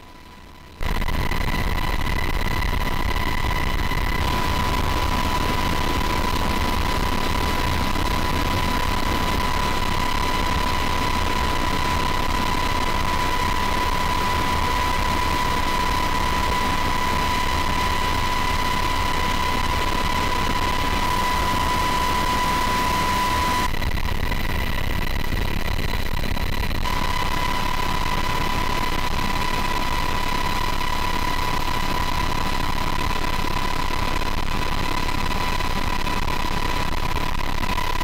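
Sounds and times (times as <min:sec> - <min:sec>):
aircraft cabin engine drone: 0:00.0 - 0:38.0
high engine whine: 0:00.0 - 0:38.0.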